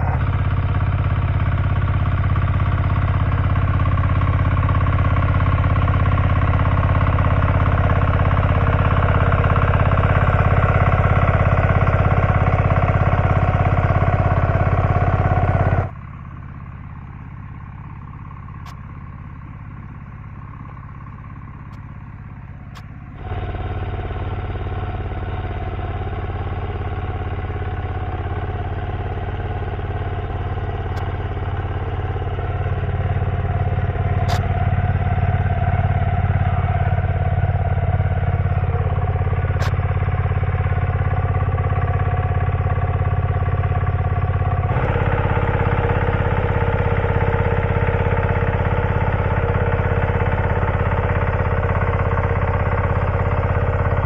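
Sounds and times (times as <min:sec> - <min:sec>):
walking tractor engine running: 0:00.0 - 0:54.0.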